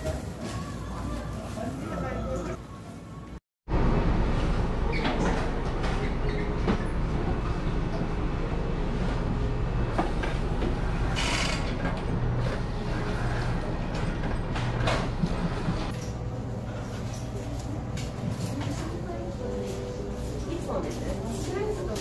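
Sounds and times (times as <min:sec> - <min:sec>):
kitchen machine hum: 0:03.7 - 0:22.0.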